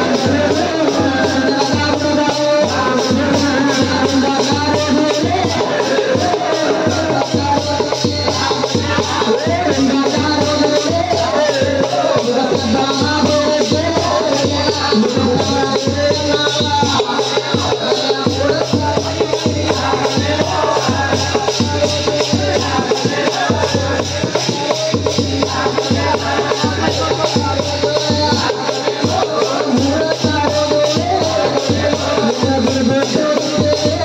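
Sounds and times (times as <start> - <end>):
man singing into a microphone: 0.0 - 34.0
steady drum beat: 0.0 - 34.0.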